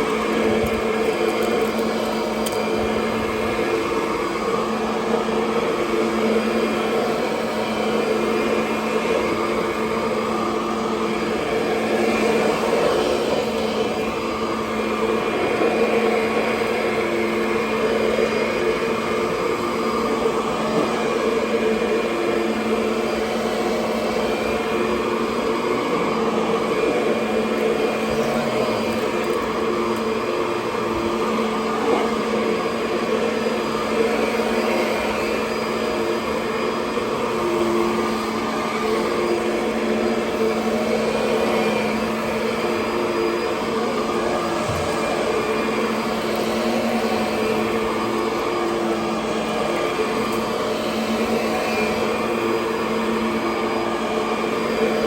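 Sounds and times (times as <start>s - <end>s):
vacuum cleaner motor hum: 0.0s - 55.0s.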